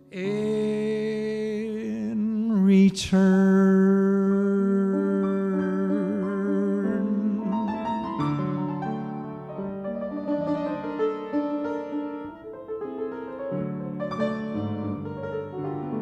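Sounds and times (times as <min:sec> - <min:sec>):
grand piano playing: 0:00.0 - 0:16.0.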